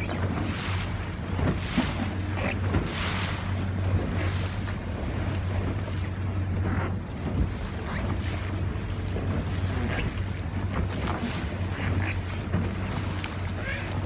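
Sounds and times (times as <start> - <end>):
boat engine humming: 0.0 - 14.0
water splashing: 0.0 - 14.0.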